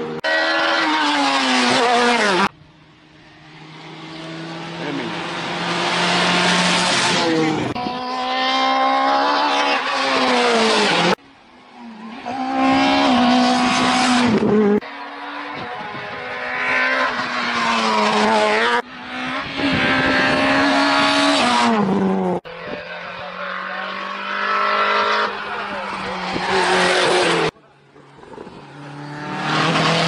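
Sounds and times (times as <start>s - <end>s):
rally car engines revving high: 0.0s - 30.0s.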